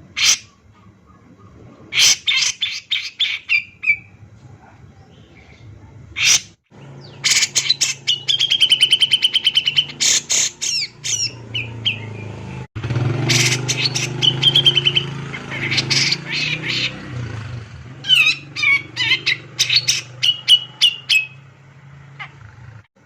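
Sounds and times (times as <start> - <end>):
bird singing with trill: 0.0 - 4.2, 5.0 - 17.2, 18.0 - 21.5.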